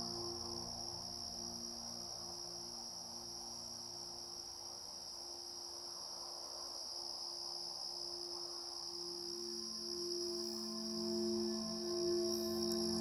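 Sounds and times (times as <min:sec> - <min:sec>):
faint low drone tones: 0:00.0 - 0:06.6, 0:08.0 - 0:13.0
crickets trilling: 0:00.0 - 0:13.0.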